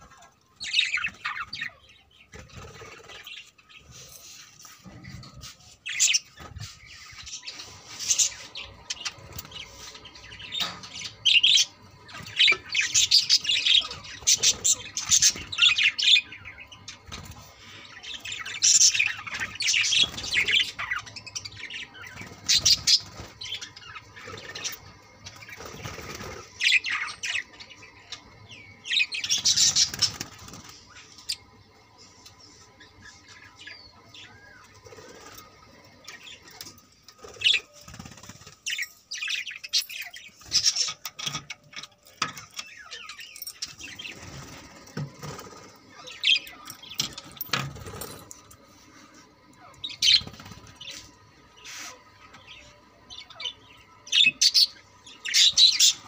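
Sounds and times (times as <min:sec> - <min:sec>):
budgerigars chirping and chattering: 0:00.0 - 0:48.8, 0:49.6 - 0:56.0.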